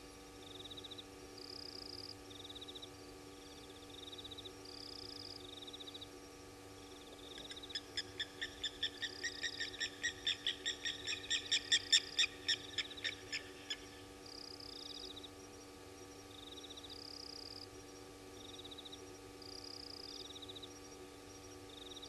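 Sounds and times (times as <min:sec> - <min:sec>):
faint insect trills: 0:00.0 - 0:22.0.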